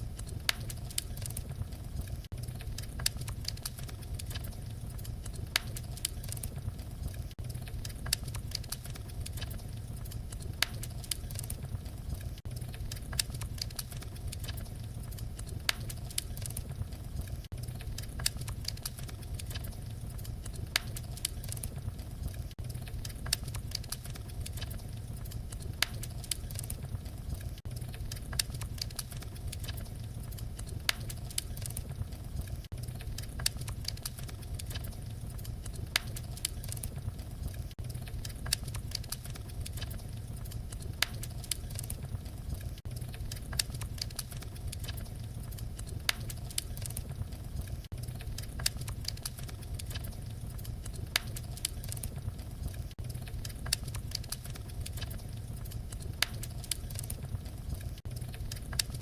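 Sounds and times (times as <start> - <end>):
fire crackles and pops: 0.0 - 59.0
wood fire rumbling: 0.0 - 59.0.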